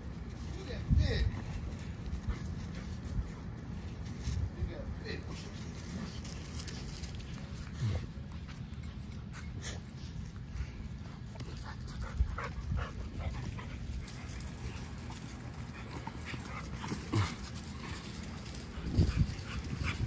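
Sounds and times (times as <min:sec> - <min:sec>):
dogs playing: 0:00.0 - 0:20.0.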